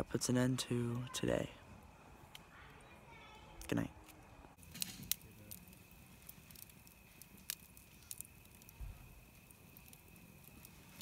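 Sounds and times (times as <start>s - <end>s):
campfire crackling: 0.1s - 11.0s.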